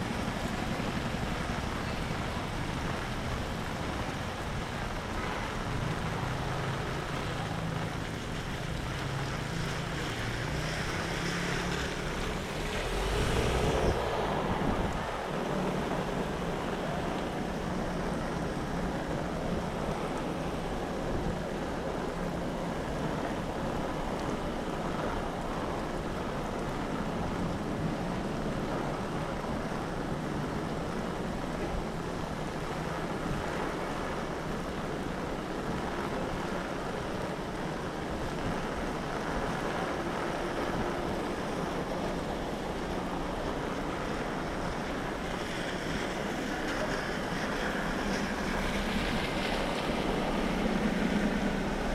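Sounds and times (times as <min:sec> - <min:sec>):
heavy rain falling: 0:00.0 - 0:51.9
wind buffeting microphone: 0:00.0 - 0:51.9.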